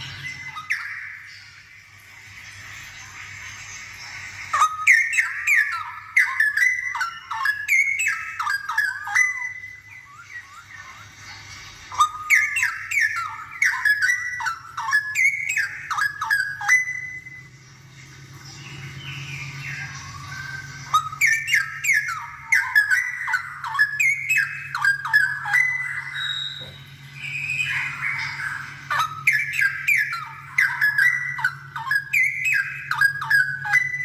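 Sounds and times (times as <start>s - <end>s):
bird song with gliding whistles: 0.0s - 34.0s.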